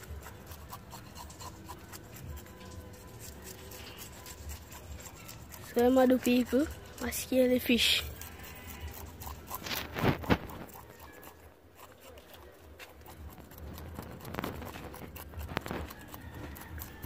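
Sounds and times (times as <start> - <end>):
knife scraping fish scales: 0.0 - 17.0.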